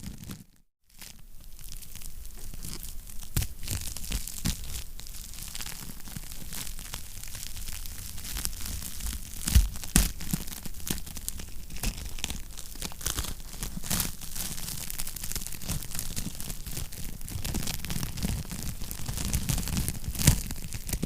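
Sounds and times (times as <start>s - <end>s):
wood fire crackling: 1.0s - 21.0s.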